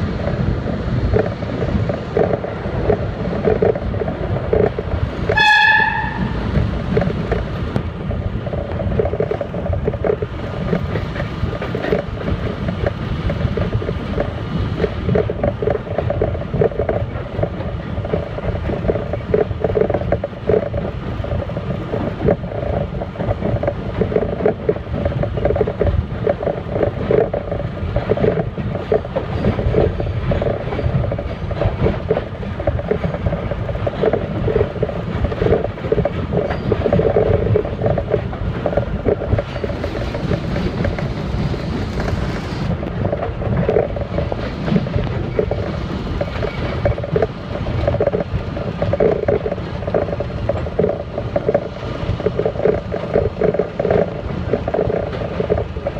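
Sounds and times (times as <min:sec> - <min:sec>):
subway wheels rumbling on rail: 0:00.0 - 0:55.9.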